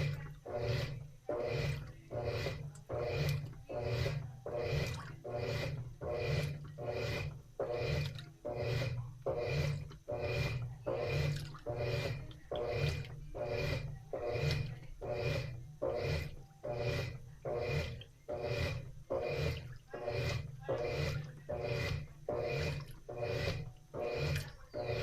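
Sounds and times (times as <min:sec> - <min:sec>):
washing machine water sloshing: 0:00.0 - 0:25.0.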